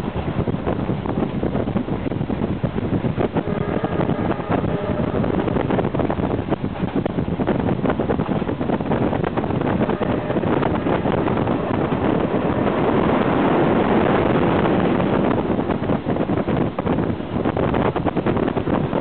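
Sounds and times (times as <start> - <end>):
train wheels and wind rushing: 0.0 - 19.0
wind buffeting microphone: 0.0 - 19.0.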